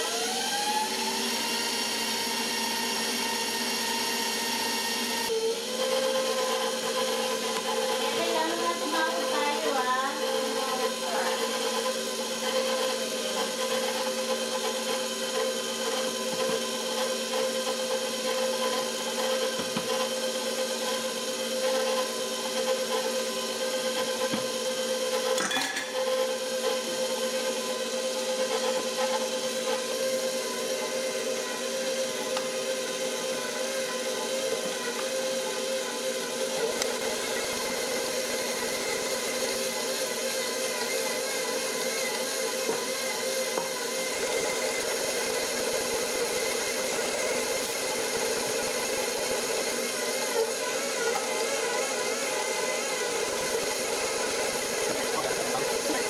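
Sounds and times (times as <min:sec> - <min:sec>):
stand mixer motor whining: 0:00.0 - 0:56.0.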